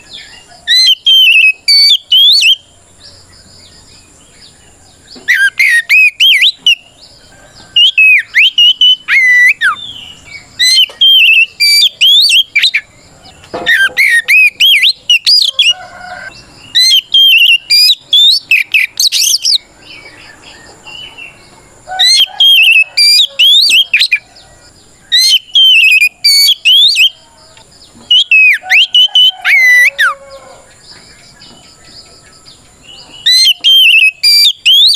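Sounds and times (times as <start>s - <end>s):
bird singing whistled runs: 0.0s - 2.6s, 5.1s - 6.9s, 7.6s - 12.9s, 13.7s - 15.8s, 16.6s - 24.2s, 25.1s - 27.2s, 27.8s - 30.2s, 30.8s - 34.9s.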